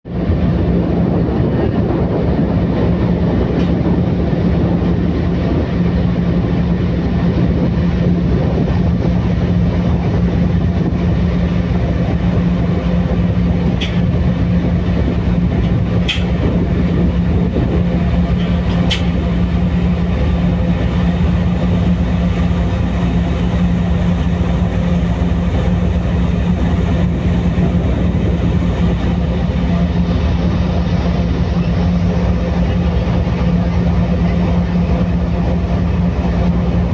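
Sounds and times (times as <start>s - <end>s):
ferry engine droning: 0.0s - 36.9s.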